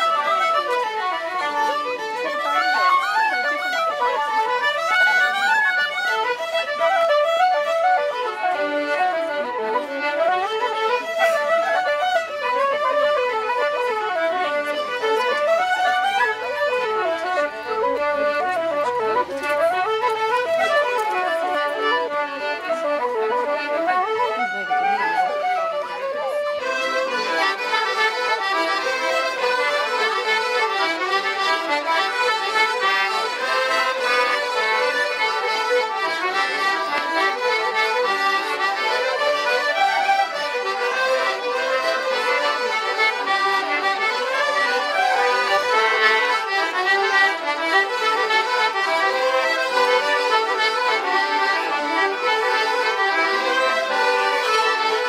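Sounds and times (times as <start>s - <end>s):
button accordions playing a folk tune: 0.0s - 55.0s
fiddle sliding notes: 0.0s - 55.0s.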